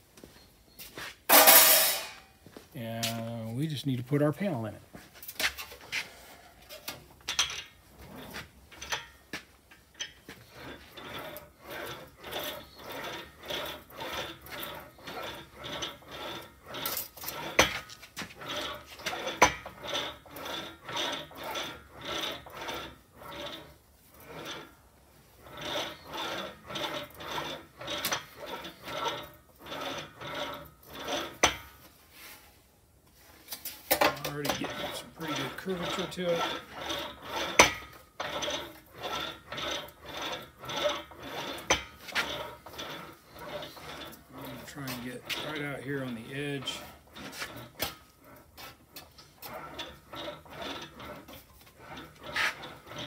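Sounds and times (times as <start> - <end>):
sheet steel rasping through wheel: 1.3 - 2.3, 4.0 - 53.0.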